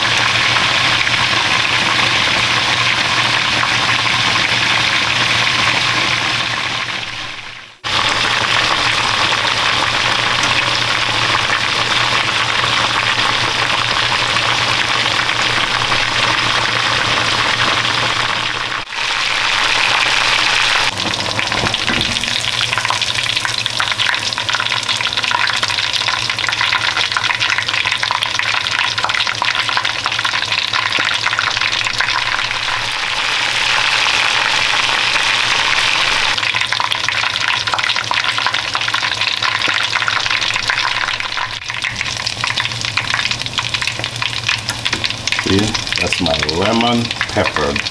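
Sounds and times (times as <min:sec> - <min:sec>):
chicken deep-frying in oil: 0:00.0 - 0:47.9.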